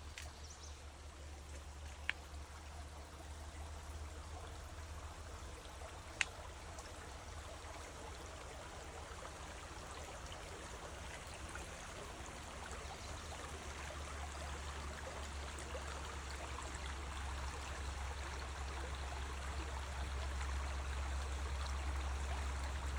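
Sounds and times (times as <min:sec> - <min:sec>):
river water flowing: 0:00.0 - 0:22.9.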